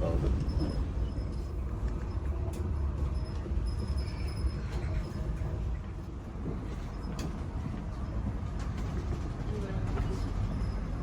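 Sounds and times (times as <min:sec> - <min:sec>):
train running low rumble: 0:00.0 - 0:11.0.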